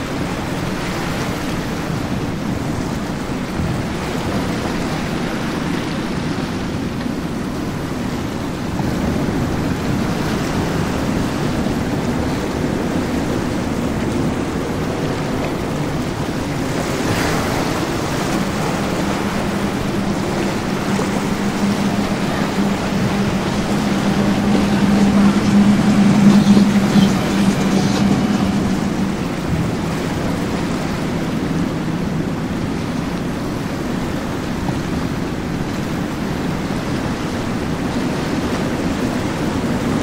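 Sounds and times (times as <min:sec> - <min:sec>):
powerboat outboard engines: 0:00.0 - 0:40.0
water rushing from wake: 0:00.0 - 0:40.0
wind on microphone: 0:00.0 - 0:40.0.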